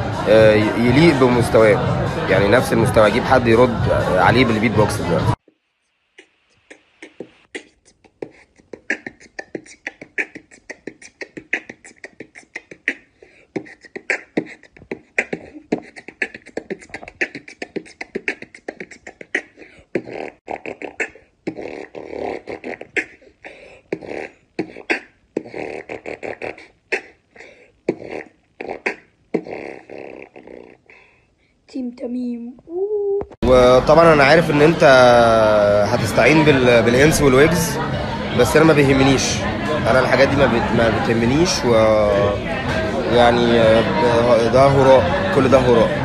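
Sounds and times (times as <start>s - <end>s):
beatboxing: 0.0s - 5.6s, 6.2s - 31.2s, 33.2s - 46.0s.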